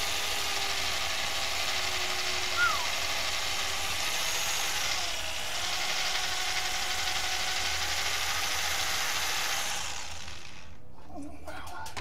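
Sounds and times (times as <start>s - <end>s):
electric drill boring into metal: 0.0s - 10.8s.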